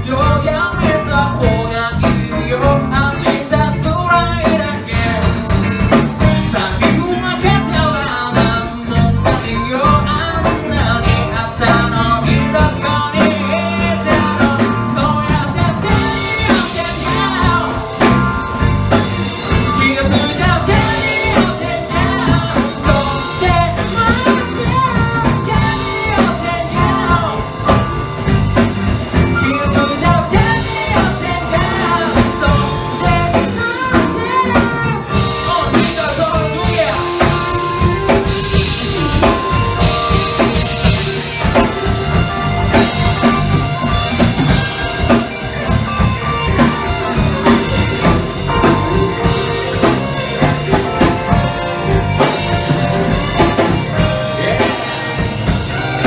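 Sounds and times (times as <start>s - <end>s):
male singer: 0.0s - 28.3s, 29.1s - 56.0s
drum kit: 0.0s - 56.0s
electric bass: 0.0s - 56.0s
electric guitar: 0.0s - 56.0s
electric piano: 0.0s - 56.0s.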